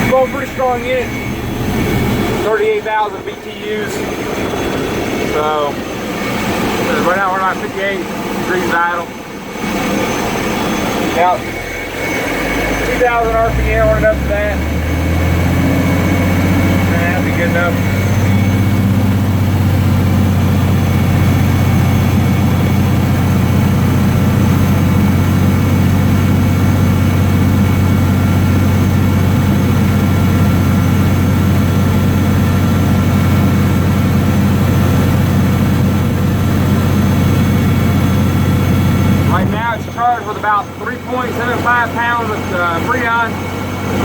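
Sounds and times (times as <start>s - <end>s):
air-conditioning blower: 0.0s - 39.8s
diesel truck engine idling: 0.0s - 44.0s.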